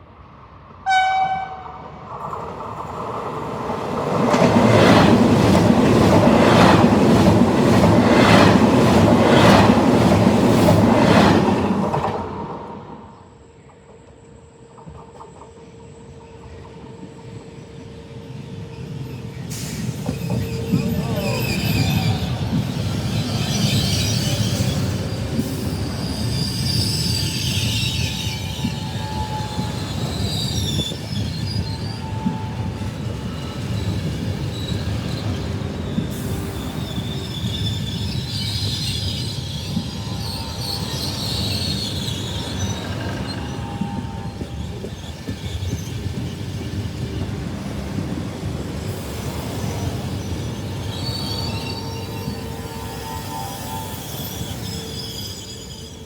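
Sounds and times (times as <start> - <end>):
train wheels rumbling on rail: 0.6 - 56.0
train wheel squeal: 2.1 - 56.0.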